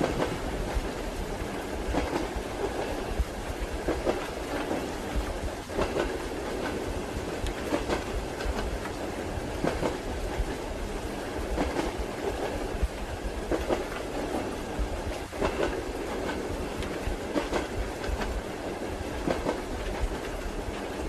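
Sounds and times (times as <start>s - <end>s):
train wheels clacking over rail joints: 0.0s - 10.6s, 11.4s - 21.0s
rain hiss: 0.0s - 21.0s
train rumble: 0.0s - 21.0s.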